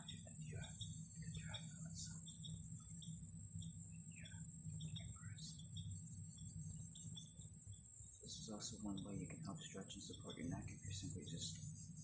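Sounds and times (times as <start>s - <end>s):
birds chirping: 0.0s - 12.0s
high-pitched whine: 0.0s - 12.0s
low electrical hum: 0.0s - 12.0s.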